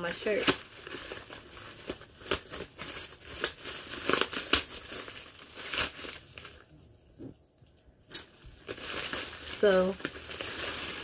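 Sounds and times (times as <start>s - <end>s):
plastic bag crinkling: 0.0s - 6.8s, 8.1s - 11.0s.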